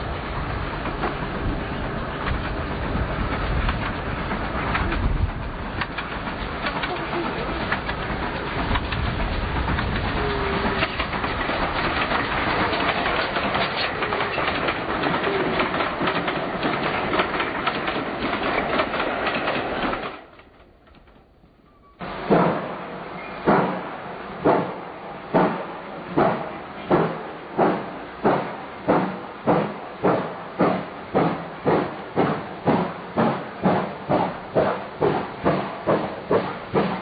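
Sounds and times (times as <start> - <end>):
train wheels clattering on rail: 0.0 - 37.0.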